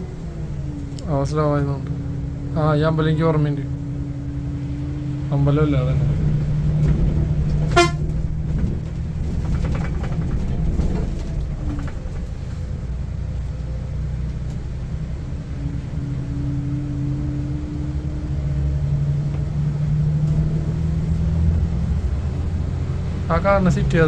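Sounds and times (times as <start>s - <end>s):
diesel coach engine droning uphill: 0.0s - 24.0s.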